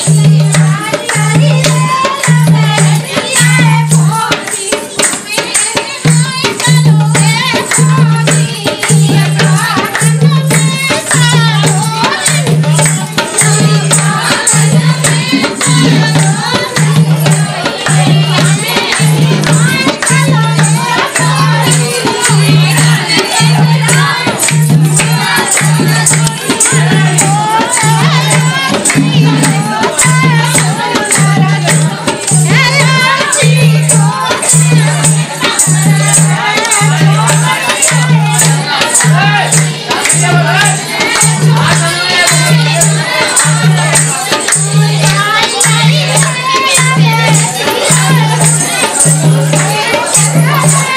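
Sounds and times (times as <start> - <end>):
person singing folk song: 0.0 - 50.9
shaken rattles or jingles: 0.0 - 50.9
steady low drum beat: 0.0 - 50.9.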